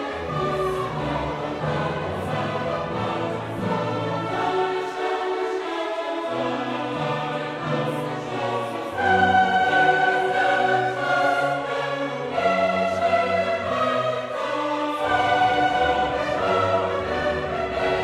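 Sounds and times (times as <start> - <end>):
choral music: 0.0 - 18.0.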